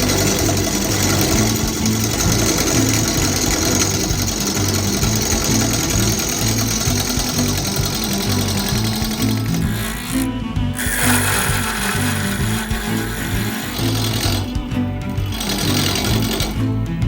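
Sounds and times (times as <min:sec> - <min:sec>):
wood lathe turning tool cutting: 0:00.0 - 0:17.0.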